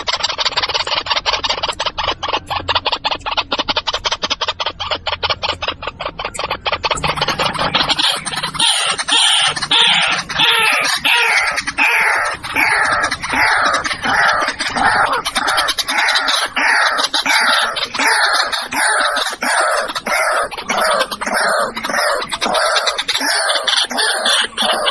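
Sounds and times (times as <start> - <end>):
waterhen calling: 0.0 - 24.9.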